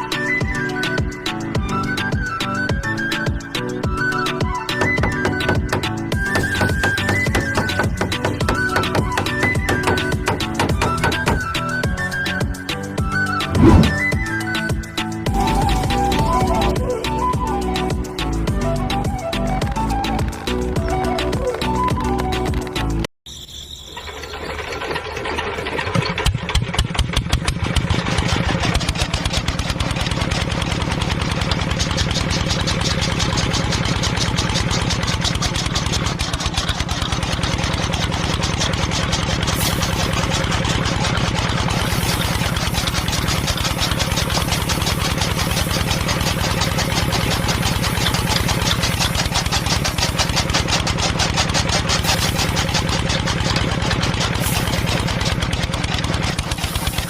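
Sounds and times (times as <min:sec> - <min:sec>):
engine starting and running: 0:00.0 - 0:57.0.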